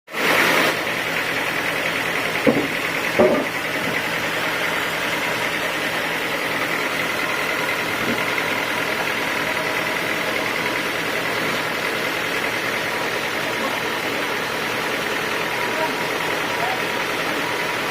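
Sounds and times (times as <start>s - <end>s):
sawmill machinery running: 0.1s - 17.9s.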